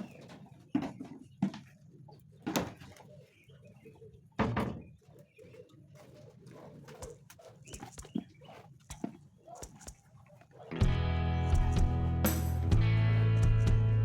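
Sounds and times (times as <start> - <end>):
chickens calling: 0.0 - 12.2.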